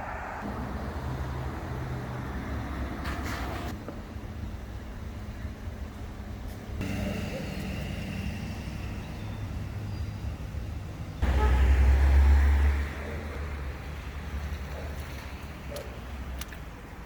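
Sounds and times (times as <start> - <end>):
road traffic rumbling: 0.0 - 17.0.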